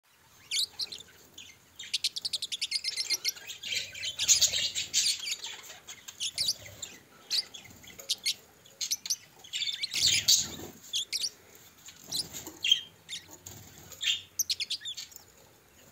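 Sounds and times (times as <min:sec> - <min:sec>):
budgerigars chirping: 0:00.2 - 0:13.4, 0:14.0 - 0:15.2.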